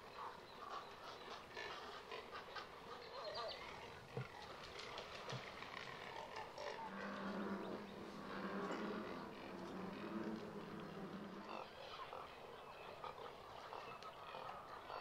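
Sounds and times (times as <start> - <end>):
waterbirds calling: 0.0 - 15.0.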